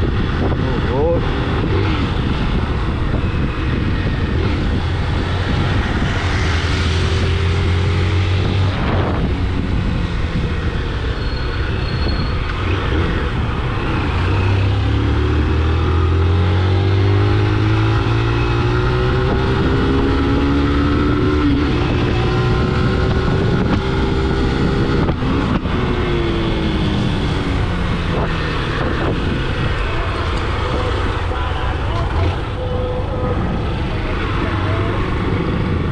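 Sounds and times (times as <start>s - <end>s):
road and wind noise: 0.0s - 35.9s.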